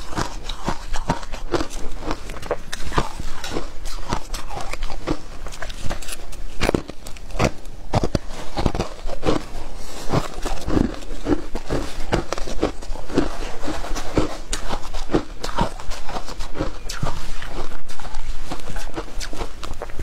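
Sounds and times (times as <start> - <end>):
ice being chewed: 0.0 - 20.0.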